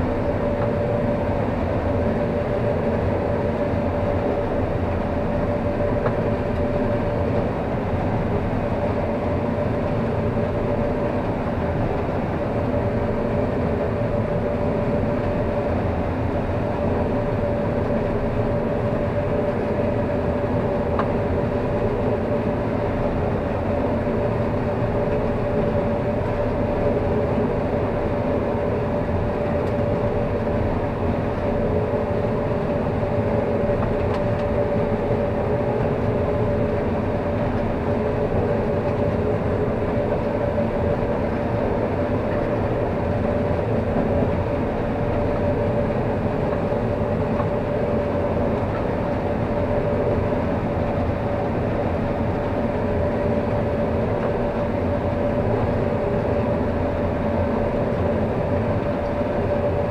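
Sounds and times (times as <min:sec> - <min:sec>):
combine harvester drone: 0:00.0 - 0:59.9
constant machine whine: 0:00.0 - 0:59.9.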